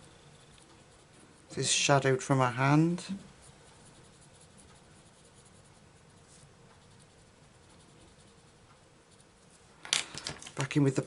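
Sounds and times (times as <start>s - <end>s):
pencil scratching on paper: 0.0s - 9.6s.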